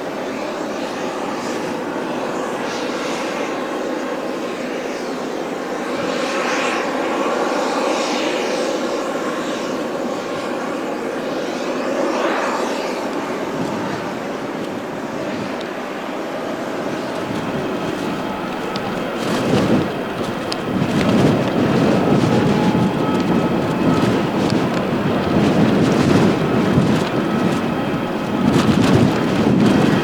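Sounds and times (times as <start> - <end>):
airliner engines roaring: 0.0 - 30.0
wind noise on microphone: 5.8 - 30.0.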